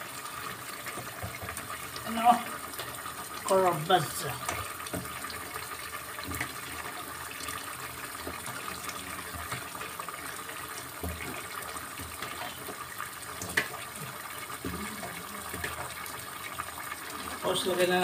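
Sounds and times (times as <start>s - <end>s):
broth bubbling in a pot: 0.0s - 18.0s.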